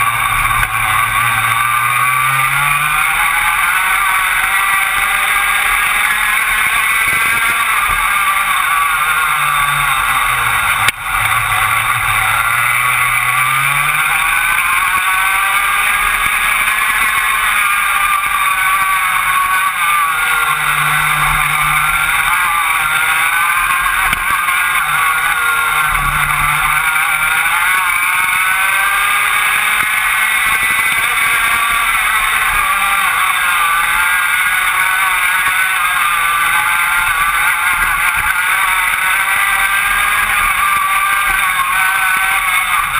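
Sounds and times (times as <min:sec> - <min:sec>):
kart engine revving: 0:00.0 - 0:42.9.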